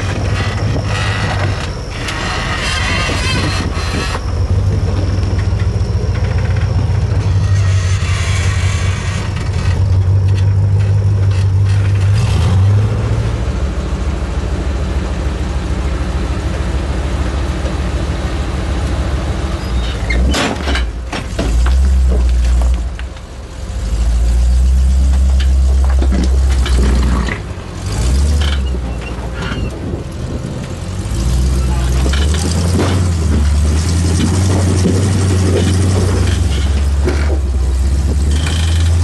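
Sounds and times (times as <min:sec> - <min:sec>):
off-road engines running: 0:00.0 - 0:39.0.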